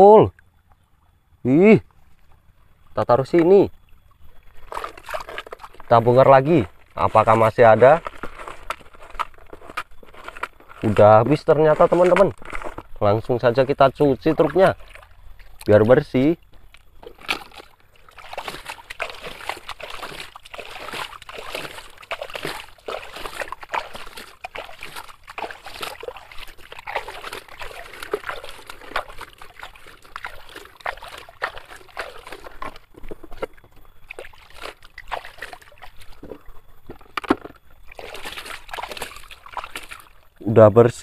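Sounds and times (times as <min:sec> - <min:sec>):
water trickling: 0:00.0 - 0:40.6
water sloshing and splashing: 0:00.4 - 0:40.4.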